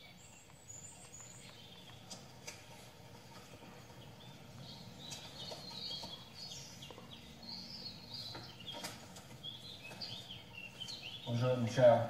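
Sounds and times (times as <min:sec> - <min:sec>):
faint outdoor background: 0:00.0 - 0:12.0
songbirds chirping: 0:00.0 - 0:12.0.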